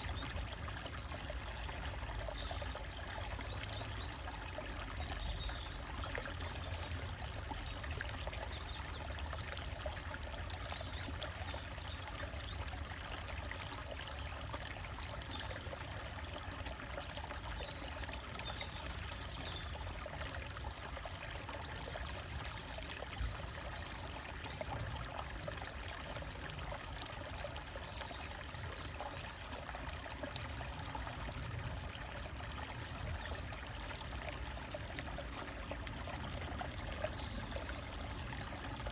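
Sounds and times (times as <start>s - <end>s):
water trickling over rocks: 0.0s - 38.9s.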